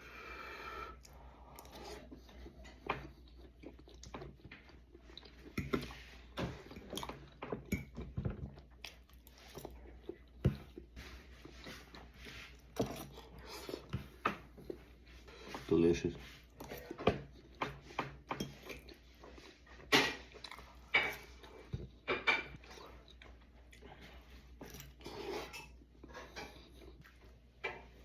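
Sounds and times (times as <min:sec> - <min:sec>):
person chewing food: 0:00.1 - 0:15.7, 0:16.4 - 0:28.0.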